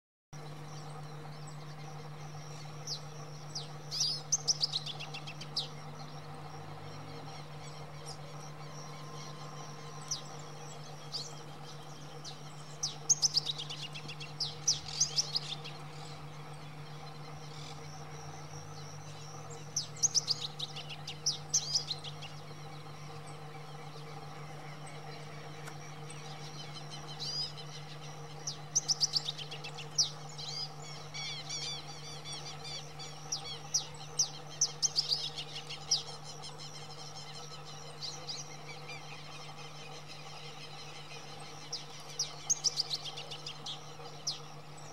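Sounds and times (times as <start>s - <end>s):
bird singing warbled notes: 0.4s - 44.9s.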